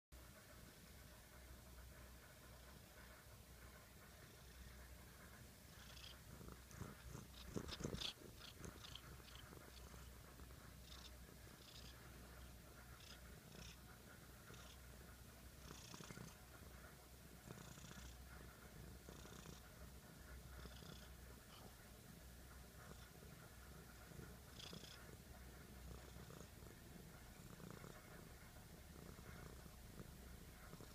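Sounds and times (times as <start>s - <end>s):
cat purring: 0.2s - 30.9s.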